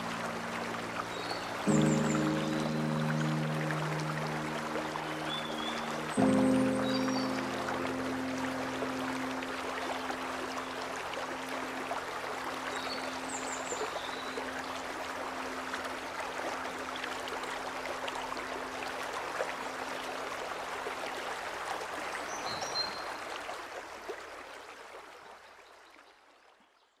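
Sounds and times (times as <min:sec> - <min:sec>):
stream running over rocks: 0:00.0 - 0:26.3.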